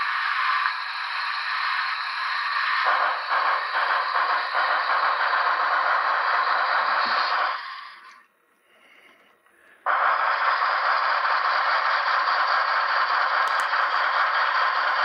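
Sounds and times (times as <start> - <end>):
model trains hissing: 0.0 - 15.0.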